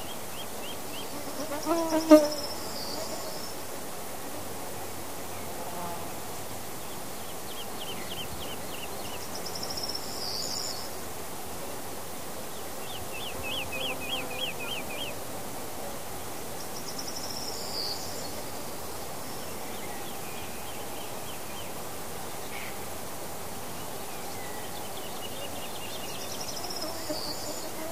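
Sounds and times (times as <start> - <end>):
insects buzzing: 0.0 - 27.9.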